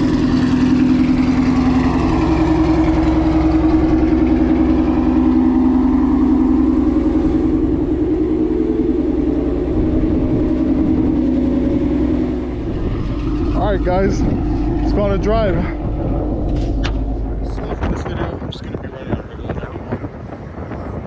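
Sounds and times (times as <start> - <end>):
car engine idling: 0.0 - 20.7.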